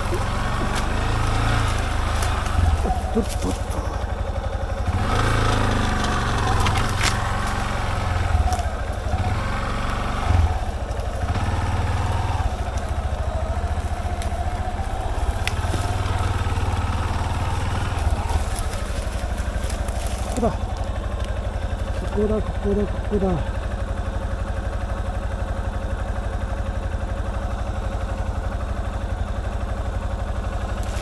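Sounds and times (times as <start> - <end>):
motorcycle engine running at low revs: 0.0 - 31.0.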